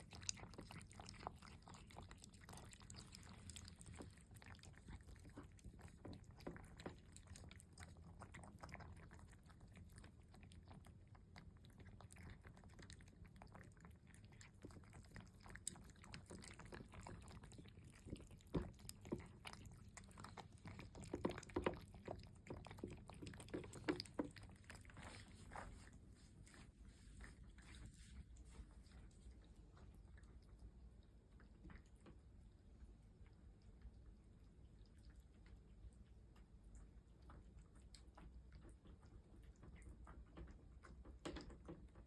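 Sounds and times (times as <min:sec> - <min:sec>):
cats chewing and crunching: 0:00.0 - 0:42.0.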